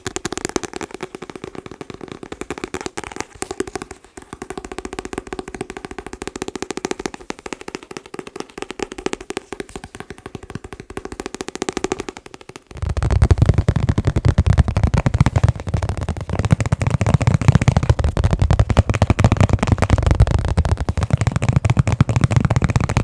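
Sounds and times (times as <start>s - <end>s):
rapid tapping on hollow object: 0.0s - 23.0s.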